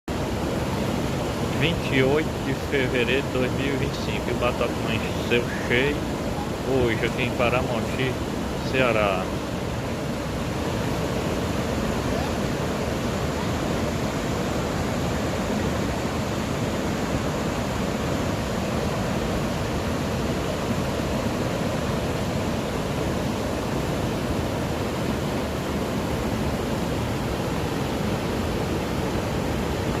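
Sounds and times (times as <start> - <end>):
water rushing: 0.1 - 30.0.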